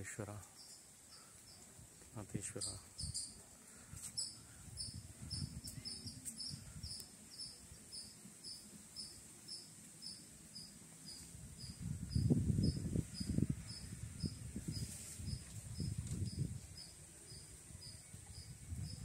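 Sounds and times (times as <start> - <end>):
insect chirping: 0.4 - 1.8, 2.5 - 19.0.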